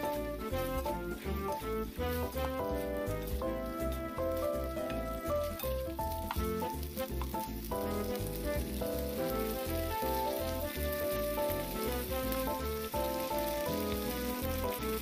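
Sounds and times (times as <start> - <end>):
background music: 0.0 - 15.0
fish sizzling in a pan: 0.0 - 15.0
spatula stirring: 0.0 - 15.0.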